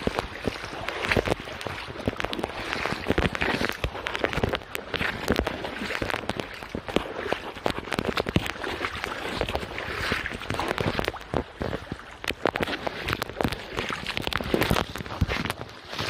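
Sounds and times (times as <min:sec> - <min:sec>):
brook water running: 0:00.0 - 0:16.0.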